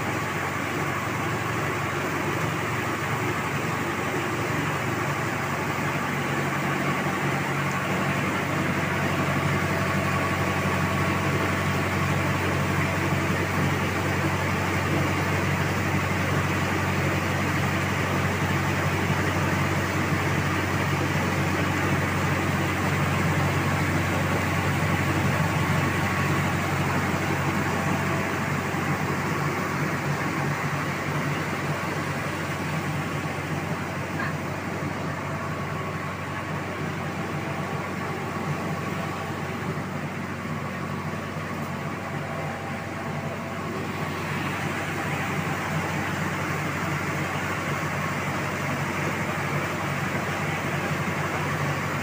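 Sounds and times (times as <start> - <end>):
rice milling machine drone: 0.0 - 52.0.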